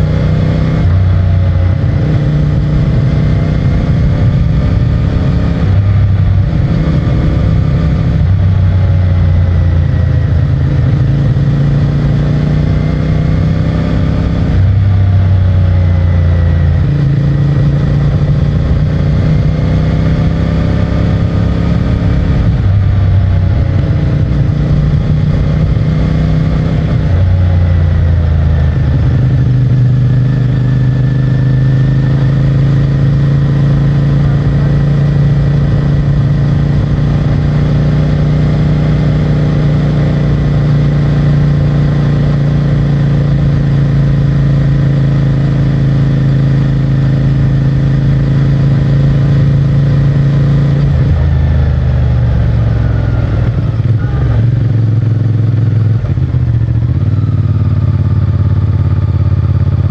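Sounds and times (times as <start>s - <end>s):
motorcycle engine revving: 0.0s - 59.9s
wind and road noise: 0.0s - 59.9s.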